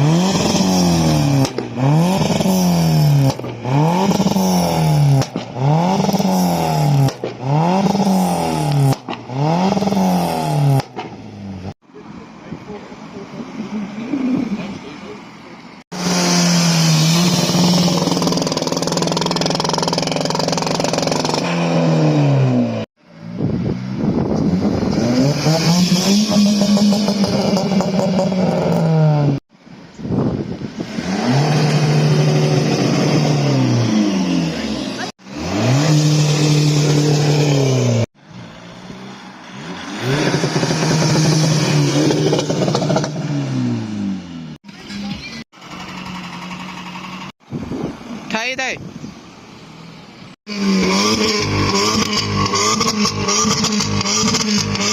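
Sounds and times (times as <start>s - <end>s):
car engine revving: 0.0s - 11.8s, 15.9s - 29.4s, 30.7s - 47.4s, 50.4s - 54.9s.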